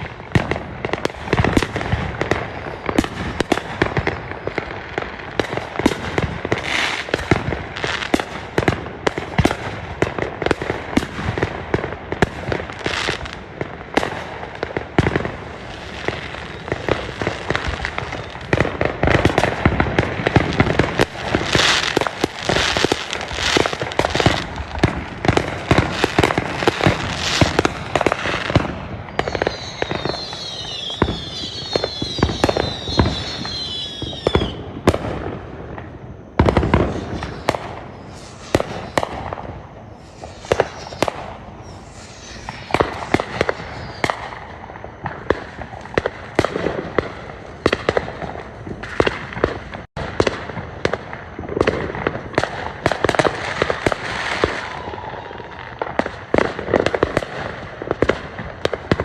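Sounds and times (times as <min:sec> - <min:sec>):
fireworks bangs and crackling: 0:00.0 - 0:59.0
fireworks whistles falling: 0:00.0 - 0:59.0.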